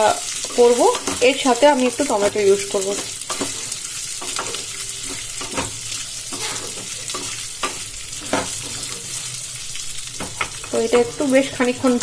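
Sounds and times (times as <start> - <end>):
food sizzling in a pan: 0.0 - 12.0
spatula scraping a pan: 0.3 - 12.0.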